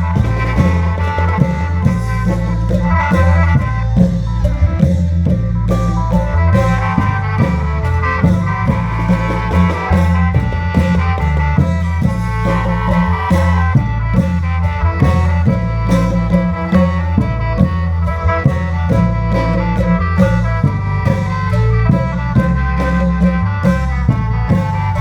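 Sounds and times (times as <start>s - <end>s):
deep bass line: 0.0s - 25.0s
long drums and percussion: 0.0s - 25.0s.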